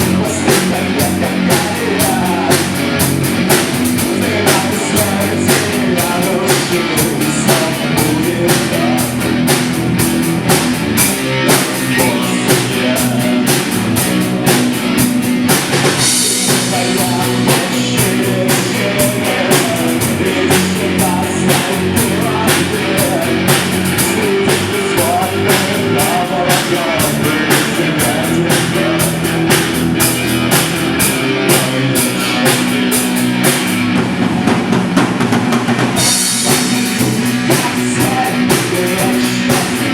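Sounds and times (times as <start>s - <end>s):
drum kit steady beat: 0.0s - 39.9s
guitar and bass: 0.0s - 39.9s.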